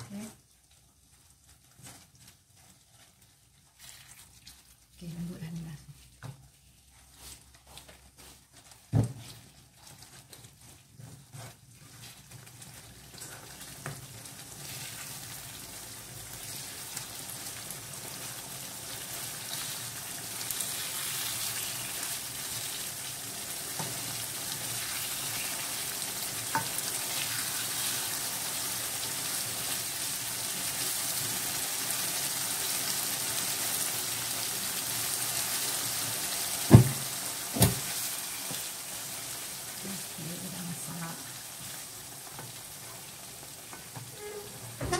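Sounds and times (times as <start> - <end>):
sauce sizzling in a wok: 8.6 - 44.9.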